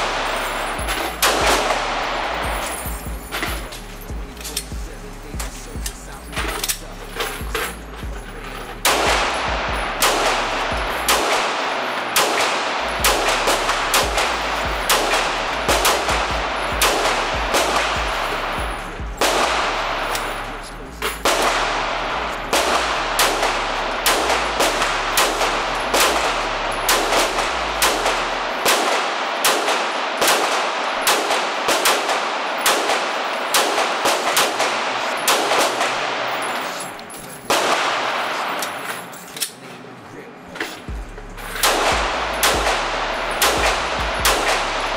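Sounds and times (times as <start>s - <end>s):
pistol shots ringing indoors: 0.0s - 39.6s, 40.6s - 44.9s.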